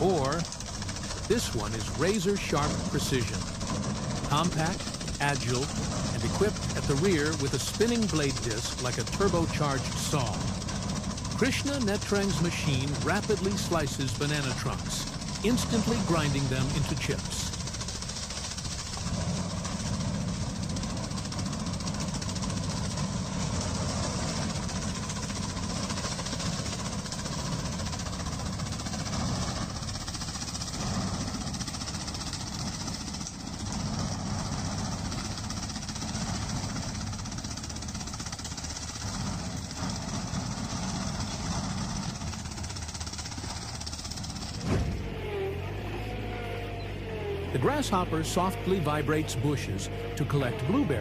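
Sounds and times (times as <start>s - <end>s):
farm machine engine running: 0.0s - 51.0s.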